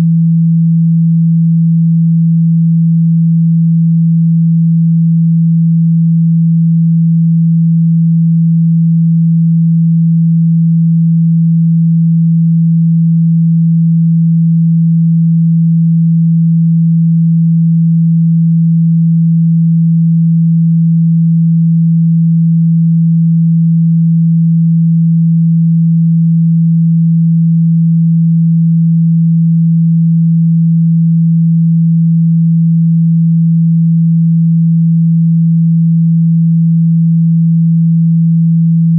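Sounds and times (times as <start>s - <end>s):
low sine-wave test tone: 0.0s - 38.9s.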